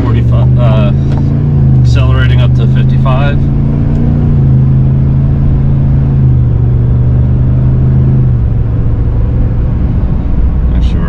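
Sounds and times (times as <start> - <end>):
truck engine accelerating: 0.0 - 11.0.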